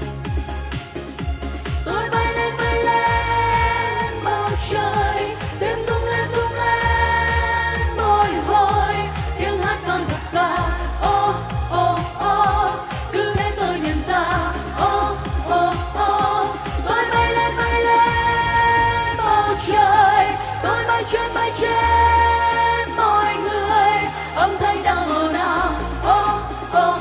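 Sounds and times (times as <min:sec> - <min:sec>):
pop backing music with beat: 0:00.0 - 0:27.0
women singing pop song: 0:01.5 - 0:27.0.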